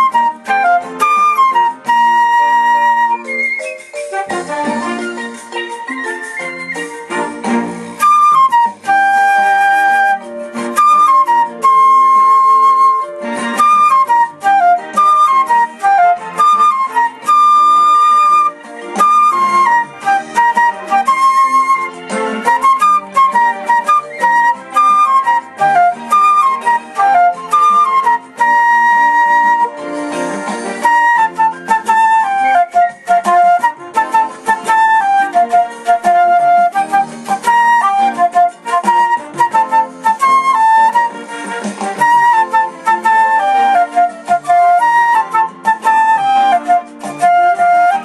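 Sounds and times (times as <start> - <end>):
solo flute melody: 0.0 - 48.0.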